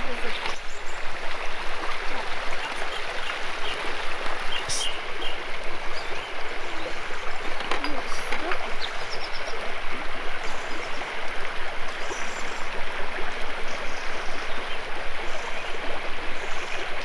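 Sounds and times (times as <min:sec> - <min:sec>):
stream babbling: 0:00.0 - 0:17.0.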